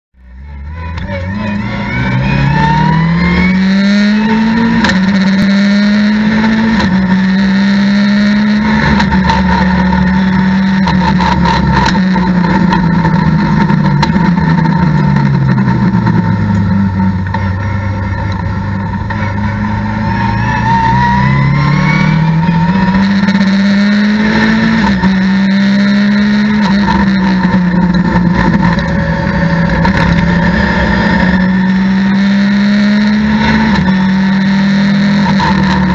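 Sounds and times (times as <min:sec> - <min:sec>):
race car engine revving: 0:00.2 - 0:35.9.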